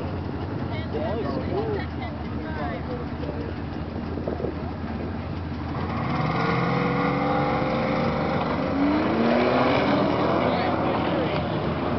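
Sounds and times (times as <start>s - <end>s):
car engine with leaking exhaust accelerating: 0.0s - 11.9s.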